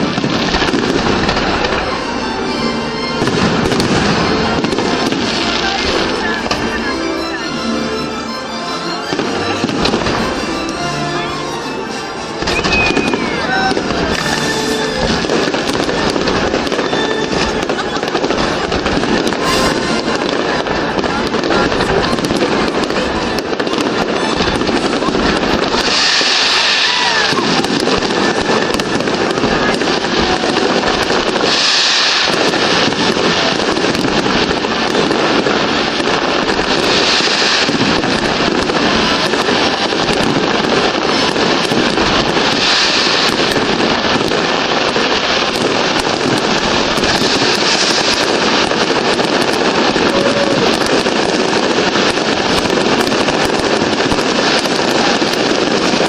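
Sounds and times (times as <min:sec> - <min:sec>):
fireworks bangs and crackles: 0:00.0 - 0:56.0
high hissing crackle: 0:00.0 - 0:56.0.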